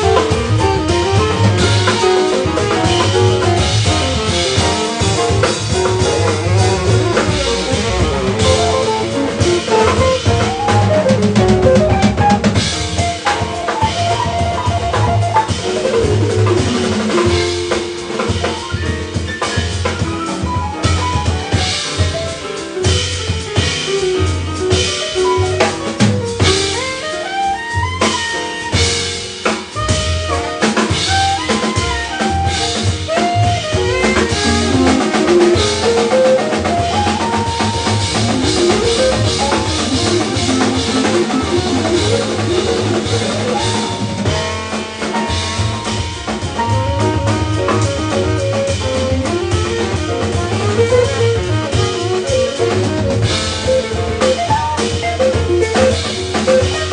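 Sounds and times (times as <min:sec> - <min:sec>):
drum kit playing: 0:00.0 - 0:56.9
jazz band playing live: 0:00.0 - 0:56.9.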